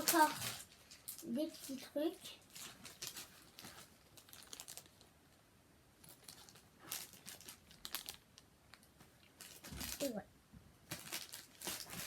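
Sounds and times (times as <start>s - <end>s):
packaging crinkling and rustling: 0.0s - 5.2s, 6.0s - 10.2s, 10.8s - 12.0s.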